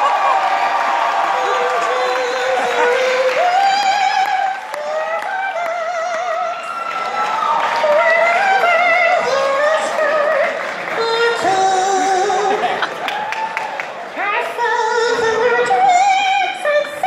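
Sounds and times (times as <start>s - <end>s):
woman singing into a microphone: 1.2s - 13.0s, 14.2s - 17.0s.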